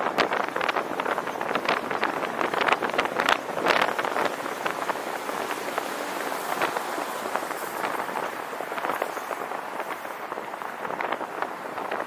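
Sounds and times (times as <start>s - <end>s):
car road noise: 0.0s - 12.0s
wind buffeting microphone: 0.0s - 12.0s.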